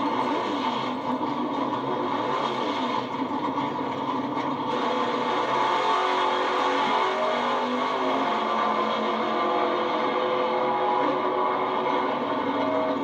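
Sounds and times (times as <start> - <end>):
vehicle engines droning: 0.0 - 13.0.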